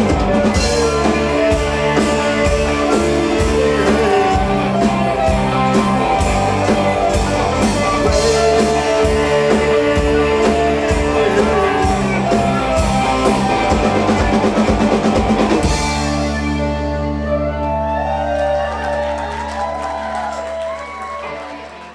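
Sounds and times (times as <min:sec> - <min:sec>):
rock band playing: 0:00.0 - 0:21.9.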